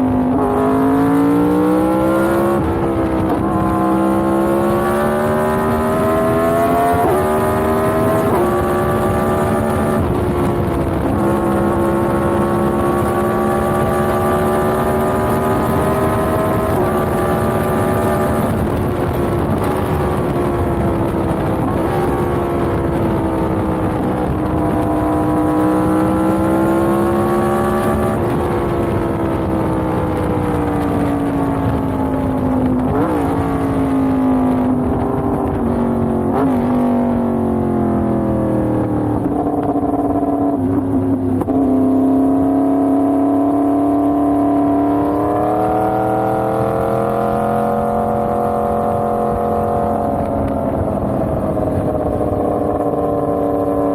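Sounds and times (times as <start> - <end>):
motorcycle engine running: 1.9 - 53.9.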